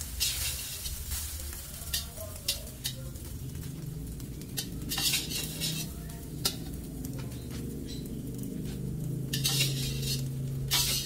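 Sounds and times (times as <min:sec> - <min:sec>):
metal spatula scraping a wok: 0:00.0 - 0:03.0, 0:04.5 - 0:08.0, 0:08.6 - 0:11.0
oil sizzling: 0:00.0 - 0:11.0.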